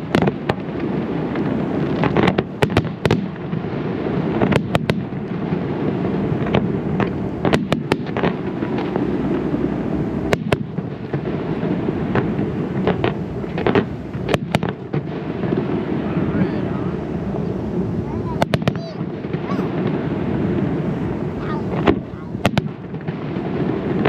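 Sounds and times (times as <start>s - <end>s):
low rumble of fireworks: 0.0s - 24.0s
sharp firework cracks: 0.0s - 24.0s.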